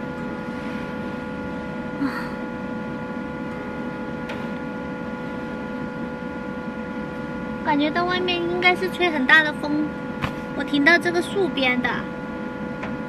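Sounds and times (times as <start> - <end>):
steady hum inside van: 0.0 - 13.0.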